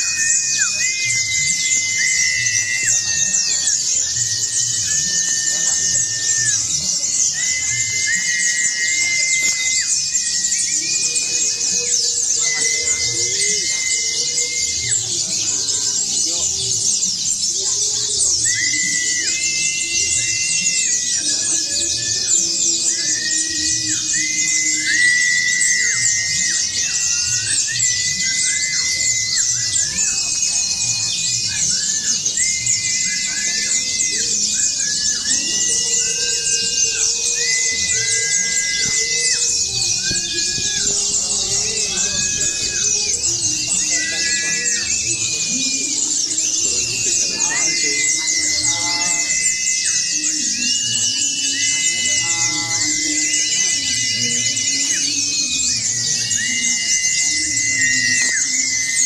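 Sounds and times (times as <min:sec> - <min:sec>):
birds twittering and chirping: 0:00.0 - 0:59.0
long steady bird whistles: 0:00.0 - 0:59.0
murmur of voices: 0:00.0 - 0:59.0.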